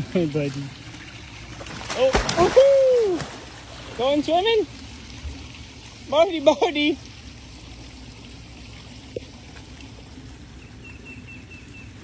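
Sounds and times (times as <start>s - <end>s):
pond water noise: 0.0s - 12.0s.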